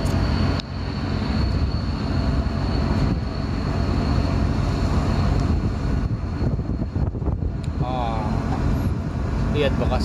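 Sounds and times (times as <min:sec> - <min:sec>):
engine rumble: 0:00.0 - 0:10.0
high-pitched whine: 0:00.0 - 0:10.0.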